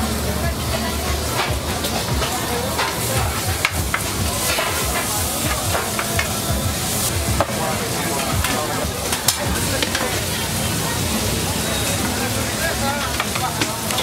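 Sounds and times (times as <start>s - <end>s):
food sizzling on a grill: 0.0s - 14.0s.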